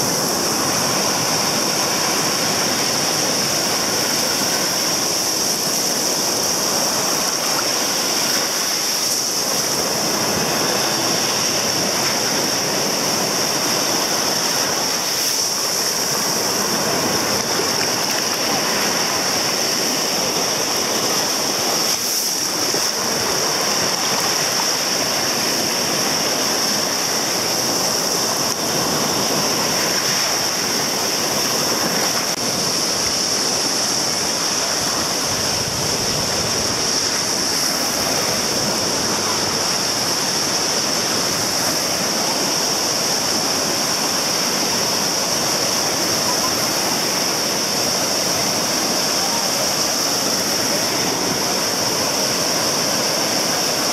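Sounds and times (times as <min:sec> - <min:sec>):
steady high hiss: 0:00.0 - 0:53.9
surf washing on sand: 0:00.0 - 0:53.9.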